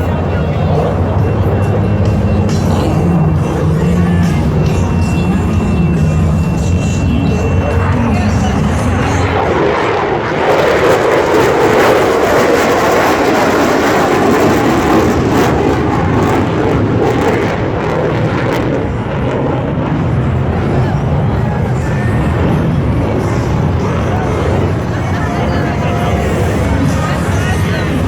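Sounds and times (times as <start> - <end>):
fighter jet roar: 0.0 - 28.0.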